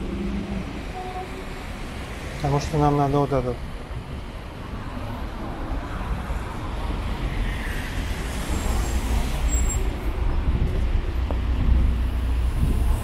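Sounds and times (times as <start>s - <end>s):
bus engine rumbling: 0.0s - 13.0s
road traffic noise: 0.0s - 13.0s.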